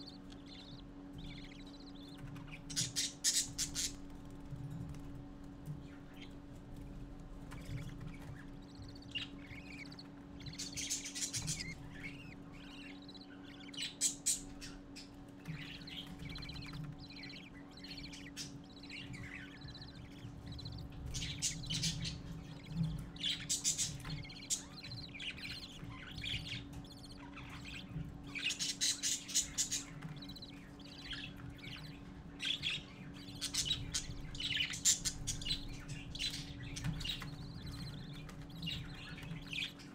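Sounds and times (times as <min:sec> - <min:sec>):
chicks begging chirps: 0:00.0 - 0:39.9
low electrical hum: 0:00.0 - 0:39.9.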